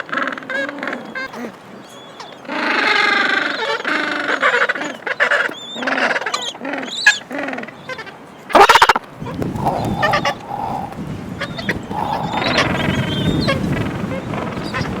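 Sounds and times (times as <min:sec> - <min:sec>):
penguins braying calls: 0:00.0 - 0:15.0.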